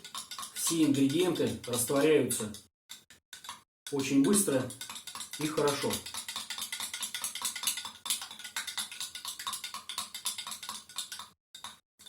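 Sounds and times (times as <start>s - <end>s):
metal spoon clinking against cup: 0.0s - 2.7s, 3.4s - 11.8s.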